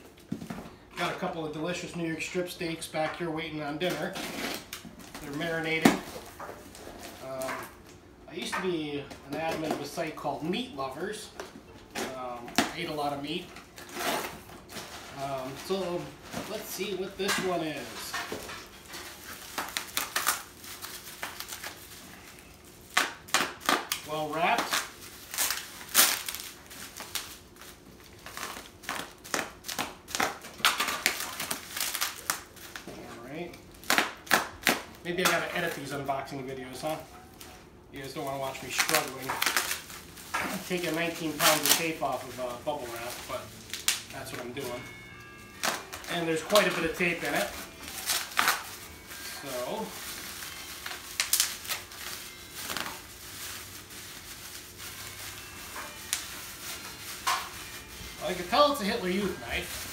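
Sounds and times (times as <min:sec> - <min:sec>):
bubble wrap crinkling: 0:01.0 - 0:59.9
packing tape tearing: 0:03.8 - 0:08.0, 0:11.8 - 0:37.5, 0:38.1 - 0:44.8, 0:45.6 - 0:59.9.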